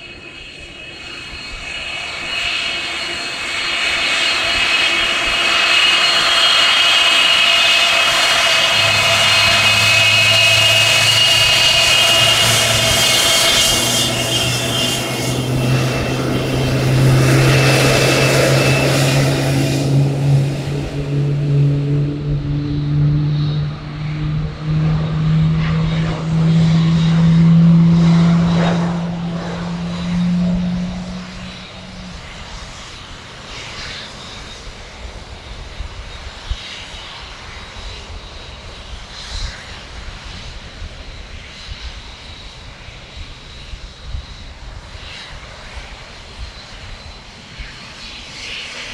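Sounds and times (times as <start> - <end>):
jet engines at takeoff: 0.0 - 48.9.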